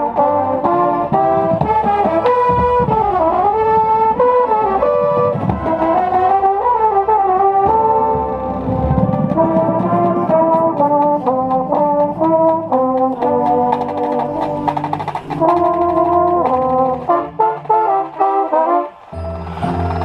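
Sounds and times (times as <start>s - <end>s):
brass line playing: 0.0s - 20.0s
mellophone: 0.0s - 20.0s.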